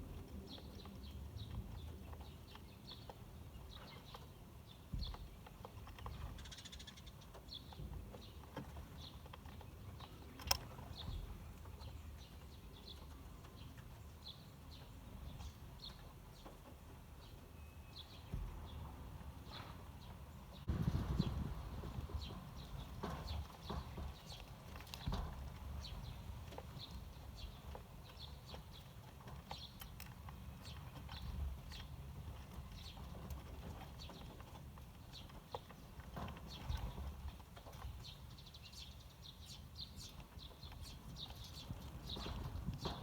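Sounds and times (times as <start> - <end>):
sparrows chirping: 0.0 - 43.0.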